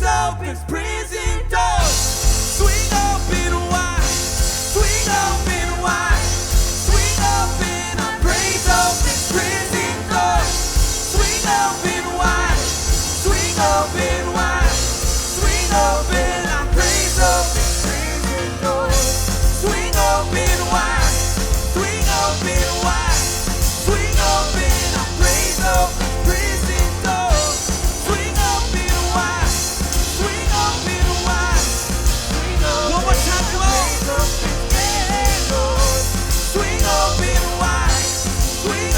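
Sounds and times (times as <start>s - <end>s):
live band playing rock song: 1.8s - 38.9s.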